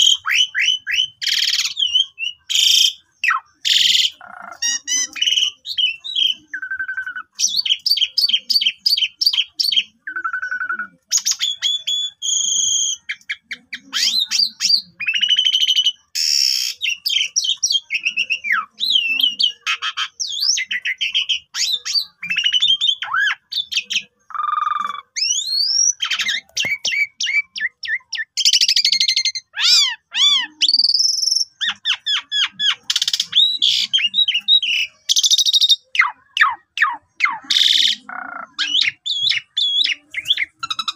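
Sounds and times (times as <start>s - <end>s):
starling chattering and whistling: 0.0s - 40.9s.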